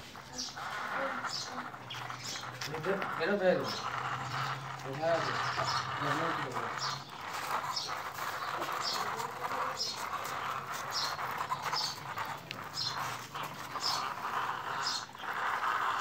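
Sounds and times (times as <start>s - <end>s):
plastic wheels rolling on concrete: 0.0s - 16.0s.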